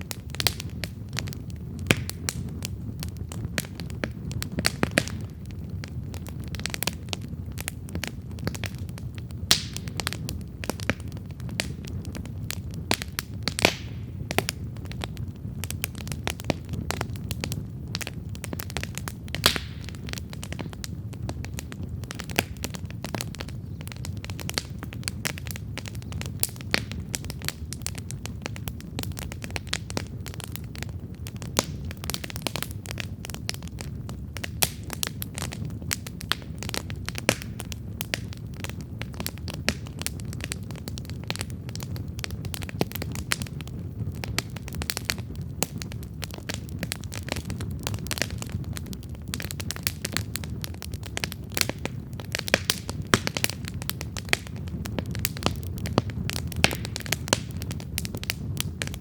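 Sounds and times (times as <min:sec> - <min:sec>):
campfire crackling and popping: 0:00.0 - 0:59.0
low rumble of flames: 0:00.0 - 0:59.0.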